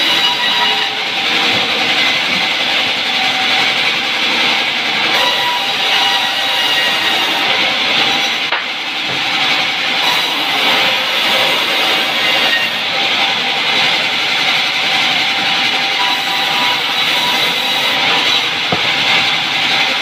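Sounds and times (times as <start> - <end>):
band saw cutting through log: 0.0 - 20.0.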